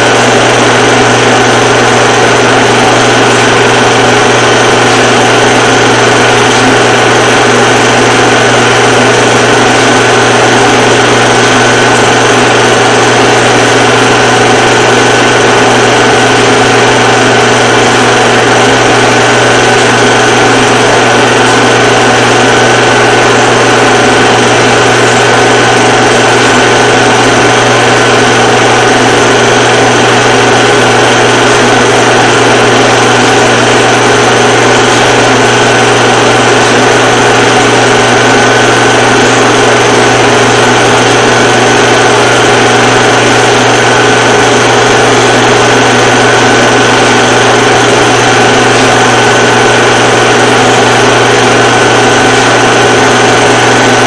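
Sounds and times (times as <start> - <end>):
film projector running: 0.0 - 54.0.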